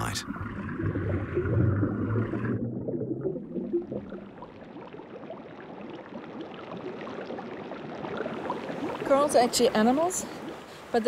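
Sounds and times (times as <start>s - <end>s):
underwater bubbles fizzing: 0.0s - 11.0s.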